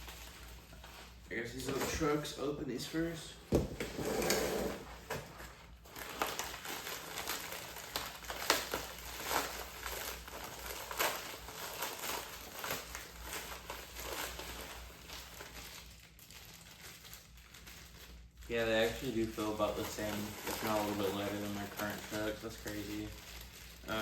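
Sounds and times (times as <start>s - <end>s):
packaging crinkling: 0.0s - 2.2s, 5.4s - 24.0s.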